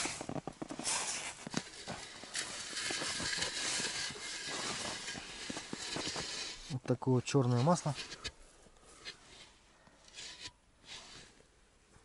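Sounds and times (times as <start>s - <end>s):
basin scraping over snow: 0.0s - 11.5s.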